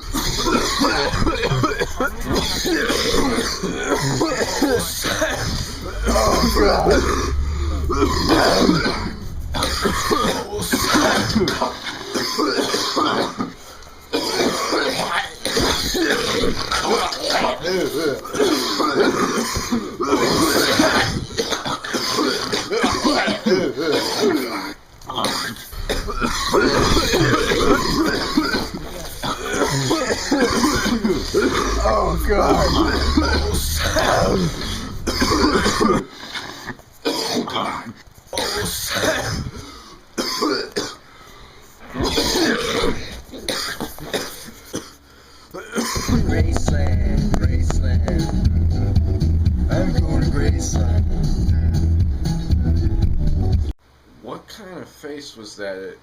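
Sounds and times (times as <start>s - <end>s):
person coughing raspily: 0.0s - 41.0s, 41.9s - 45.0s, 45.6s - 46.3s.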